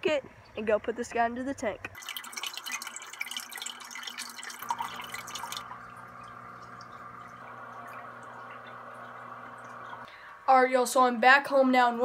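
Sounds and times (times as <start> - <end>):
aquarium water bubbling: 0.0 - 10.8.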